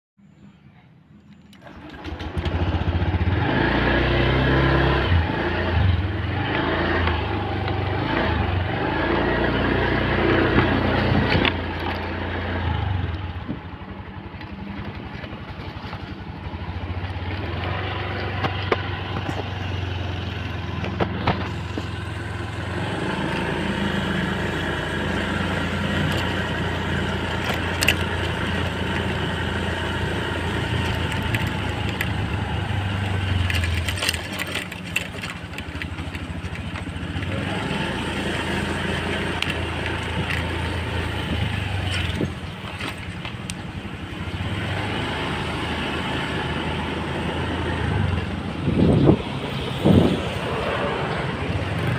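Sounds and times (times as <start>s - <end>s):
motorcycle engine running and idling: 1.2s - 51.9s.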